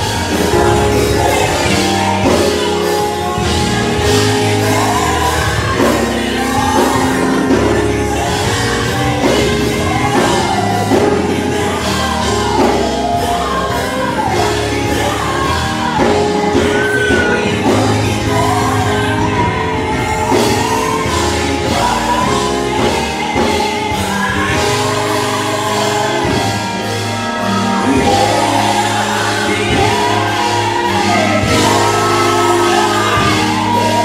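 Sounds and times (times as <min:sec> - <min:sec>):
band playing: 0:00.0 - 0:34.0
low bass notes: 0:00.0 - 0:34.0
women singing gospel: 0:00.0 - 0:34.0.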